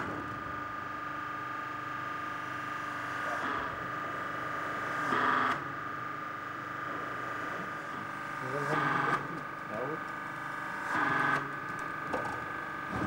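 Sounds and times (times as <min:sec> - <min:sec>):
machinery whine: 0:00.0 - 0:13.0.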